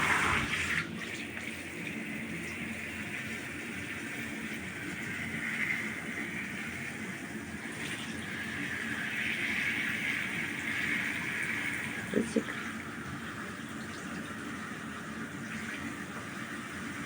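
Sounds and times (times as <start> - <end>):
shower water spraying: 0.0 - 17.0.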